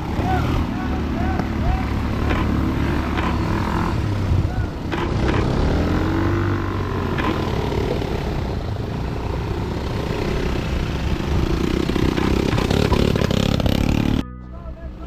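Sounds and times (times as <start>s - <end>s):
vehicle engine running: 0.0s - 14.3s.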